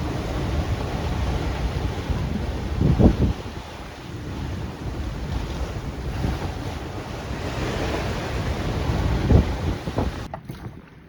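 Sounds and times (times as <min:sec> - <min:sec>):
waves rushing around boat: 0:00.0 - 0:11.0
wind buffeting microphone: 0:00.0 - 0:11.0.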